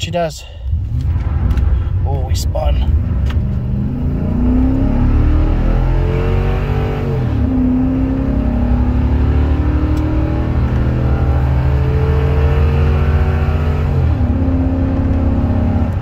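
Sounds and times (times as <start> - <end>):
truck engine accelerating: 0.7 - 16.0.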